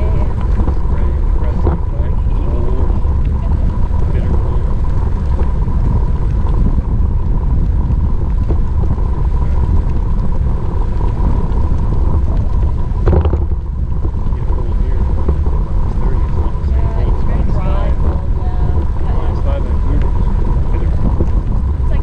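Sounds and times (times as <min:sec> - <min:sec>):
thin steady whine: 0:00.0 - 0:22.0
wind buffeting microphone: 0:00.0 - 0:22.0.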